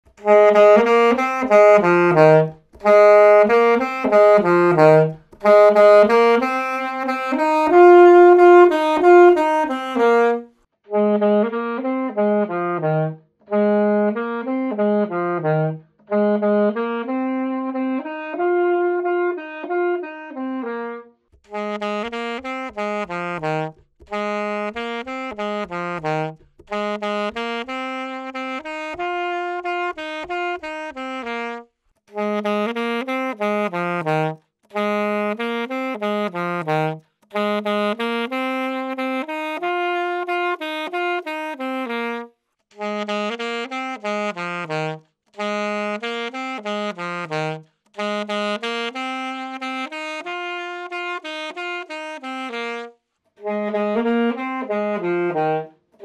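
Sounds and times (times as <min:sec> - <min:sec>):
alto saxophone phrase: 0:00.2 - 0:56.0.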